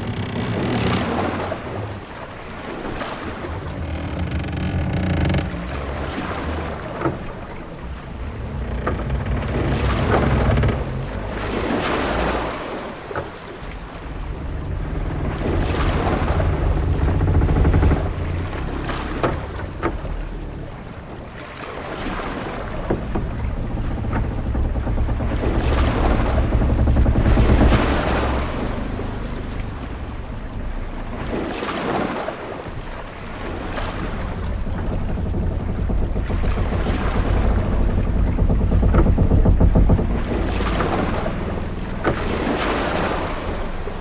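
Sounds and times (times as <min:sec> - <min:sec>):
low rumble: 0:00.0 - 0:44.0
sea waves washing: 0:00.0 - 0:44.0
short knocks: 0:00.0 - 0:44.0
wind: 0:00.0 - 0:44.0.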